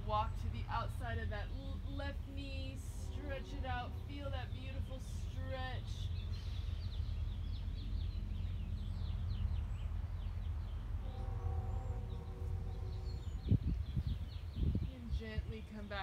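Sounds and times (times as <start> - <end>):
low rumble: 0.0 - 16.0
small birds chirping: 0.0 - 16.0
steady hum: 0.0 - 16.0.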